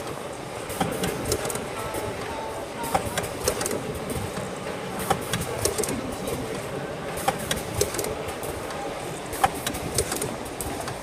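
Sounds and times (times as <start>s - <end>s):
packing machine running: 0.0s - 11.0s
sharp machine clicks: 0.7s - 2.1s, 2.8s - 11.0s.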